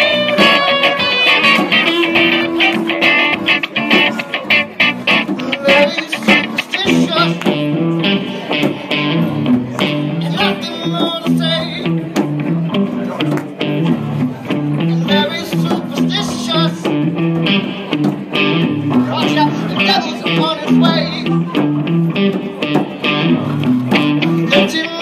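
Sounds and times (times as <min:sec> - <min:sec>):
strummed guitar: 0:00.0 - 0:25.0.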